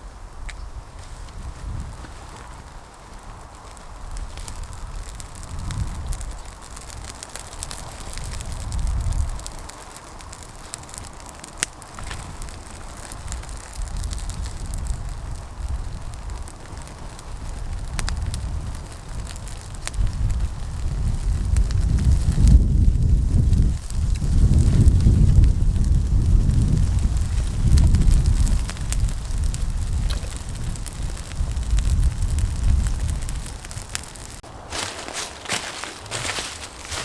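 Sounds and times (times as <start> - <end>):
wind buffeting microphone: 0.0 - 37.0
sharp crackles and ticks: 0.4 - 37.0.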